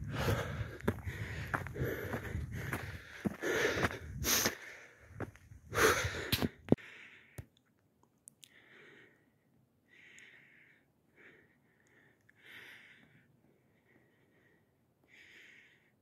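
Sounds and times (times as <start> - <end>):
heavy breathing: 0.0 - 7.4, 8.5 - 16.0.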